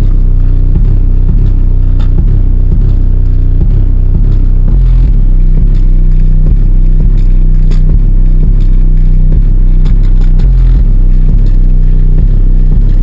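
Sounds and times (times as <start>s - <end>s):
deep bass music: 0.0s - 13.0s.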